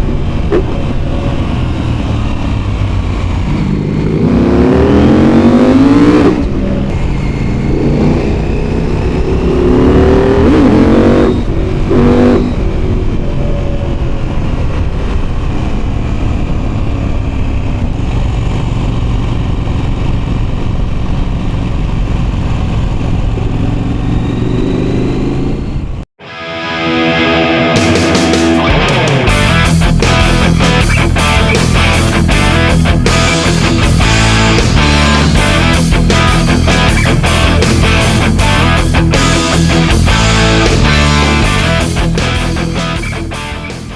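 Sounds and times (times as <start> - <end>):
motorcycle engine accelerating: 0.0 - 26.1, 27.1 - 43.9.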